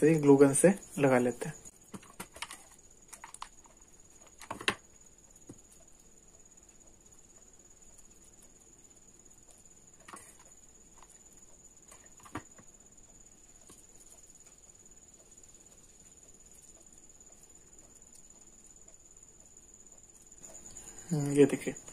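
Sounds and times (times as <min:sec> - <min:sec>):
faint high-pitched whine: 0:00.0 - 0:21.9.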